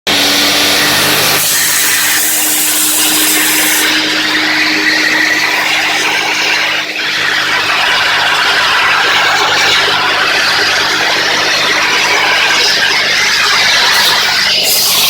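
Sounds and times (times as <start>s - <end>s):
vacuum cleaner motor hum: 0.1s - 15.0s.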